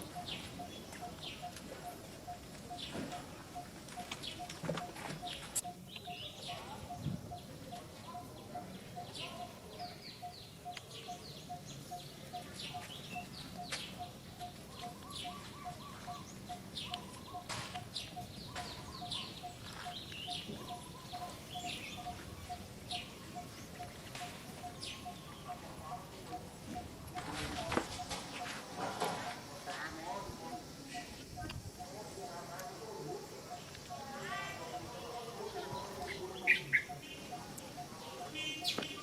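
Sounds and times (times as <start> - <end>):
high falling chirping calls: 0.0 - 27.0, 33.4 - 39.0.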